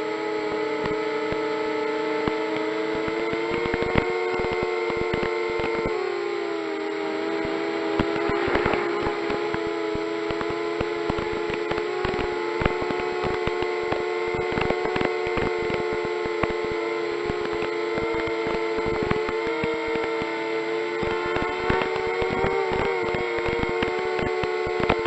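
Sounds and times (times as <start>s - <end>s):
drone motors humming: 0.0s - 25.0s
sharp clicks and crackles: 2.2s - 6.0s, 7.4s - 25.0s.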